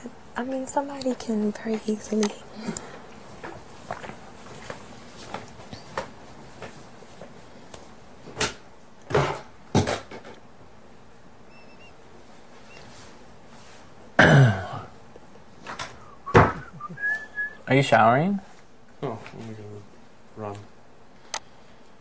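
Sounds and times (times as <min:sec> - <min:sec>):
room hiss: 0:00.0 - 0:22.0.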